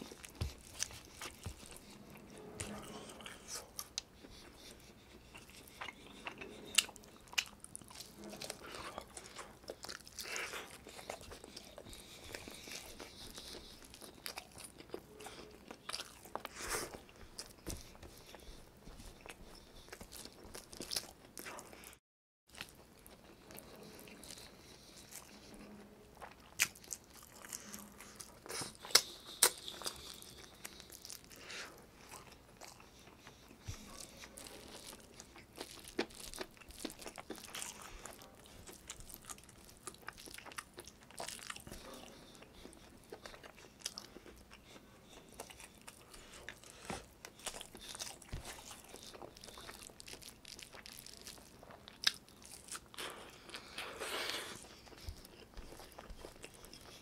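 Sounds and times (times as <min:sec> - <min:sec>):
person chewing and smacking: 0:00.0 - 0:57.0.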